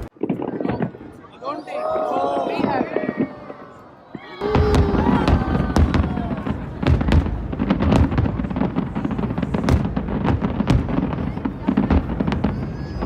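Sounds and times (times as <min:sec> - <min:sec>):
fireworks banging and crackling: 0:00.0 - 0:01.4, 0:02.3 - 0:13.0.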